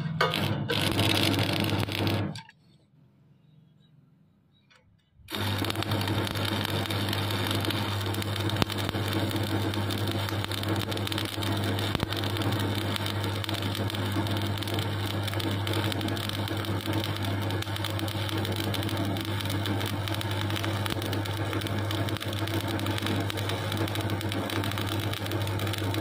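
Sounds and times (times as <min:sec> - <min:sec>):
welding arc crackling sizzle: 0:00.0 - 0:02.5, 0:05.2 - 0:26.0.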